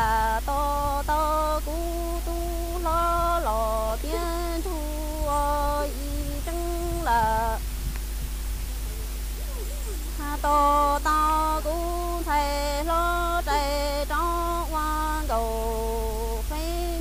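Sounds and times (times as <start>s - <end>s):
woman singing unaccompanied: 0.0s - 7.8s, 9.4s - 17.0s.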